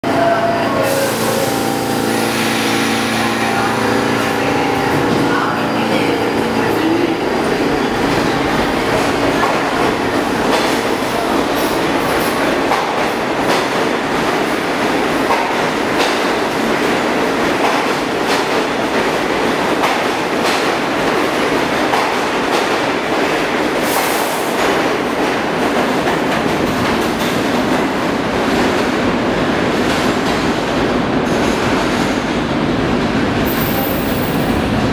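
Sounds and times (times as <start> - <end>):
subway train rumbling: 0.0 - 34.9.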